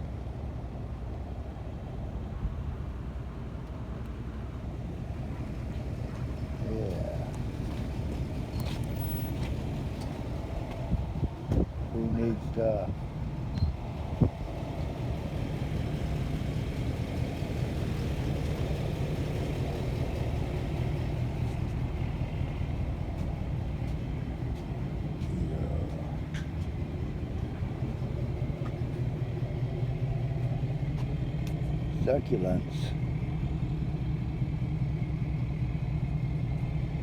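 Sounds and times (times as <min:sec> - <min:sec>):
vehicle engine running: 0:00.1 - 0:37.0.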